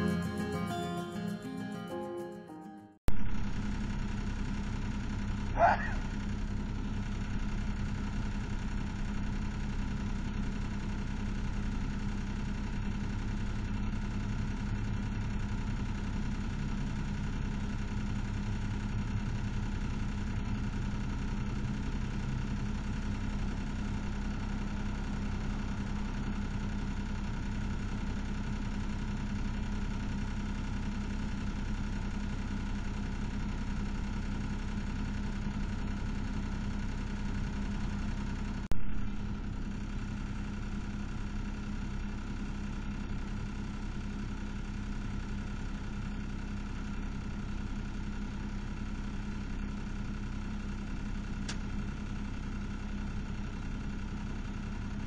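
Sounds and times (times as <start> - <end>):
truck engine idling: 0.0 - 2.3, 3.1 - 55.0.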